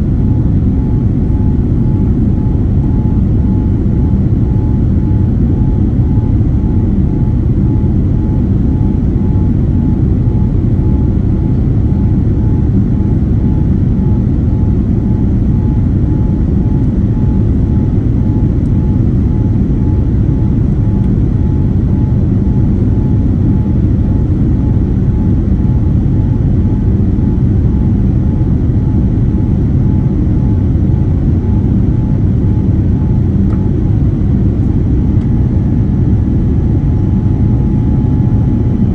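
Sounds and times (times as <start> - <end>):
aircraft cabin engine rush: 0.0 - 38.9
faint pulsing tone: 0.0 - 38.9.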